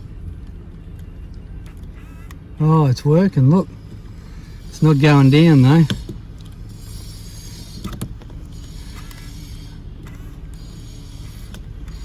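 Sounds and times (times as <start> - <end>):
car engine idling: 0.0 - 12.0
faint mirror motor whir: 0.0 - 12.0.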